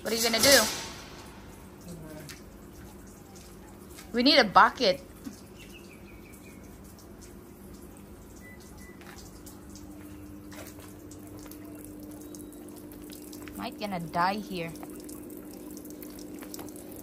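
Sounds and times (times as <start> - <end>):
steady low hum: 0.0 - 3.8, 5.1 - 17.0
faint trickling water: 0.0 - 17.0.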